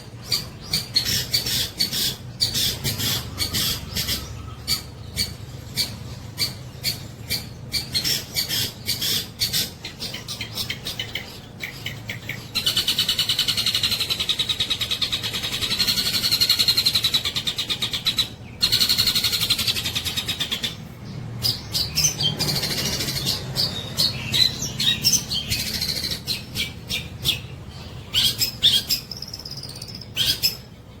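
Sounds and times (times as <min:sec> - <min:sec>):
bird singing with rattling trills: 0:00.0 - 0:31.0.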